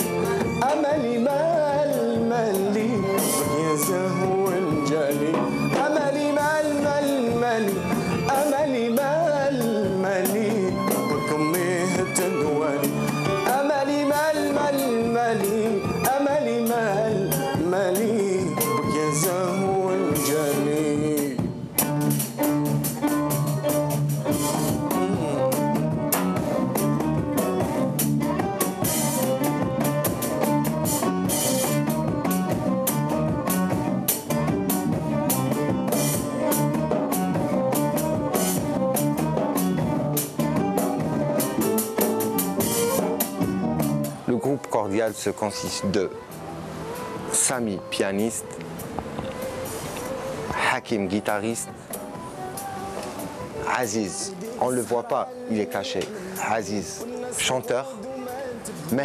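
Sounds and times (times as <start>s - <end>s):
band playing live: 0.0s - 59.0s
drums and rhythm section: 0.0s - 59.0s
violin melody: 0.0s - 59.0s.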